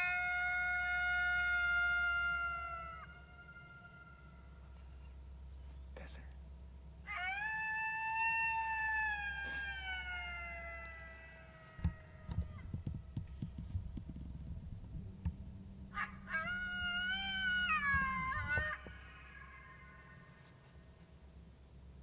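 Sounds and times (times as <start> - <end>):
recorded coyote howls: 0.0 - 4.9, 7.0 - 14.1, 14.8 - 20.9.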